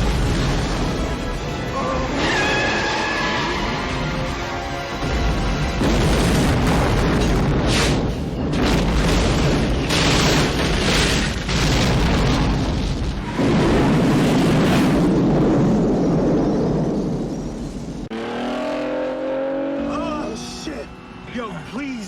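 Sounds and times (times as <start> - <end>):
film explosions: 0.0 - 18.2.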